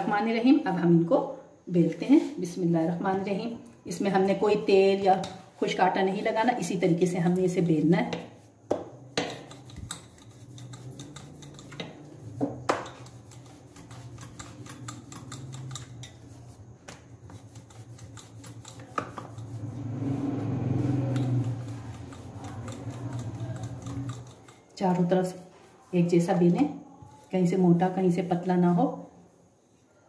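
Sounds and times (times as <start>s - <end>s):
rolling pin rolling dough: 1.8s - 29.0s.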